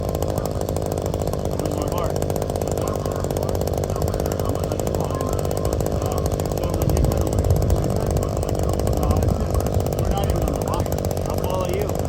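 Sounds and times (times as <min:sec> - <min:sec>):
diesel engine rattling: 0:00.0 - 0:12.0.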